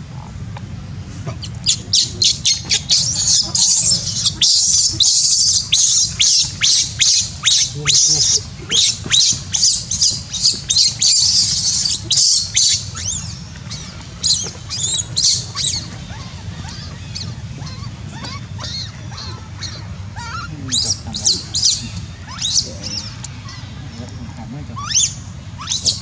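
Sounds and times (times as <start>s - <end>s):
infant monkey shrill squeals: 1.4s - 23.2s, 24.8s - 26.0s.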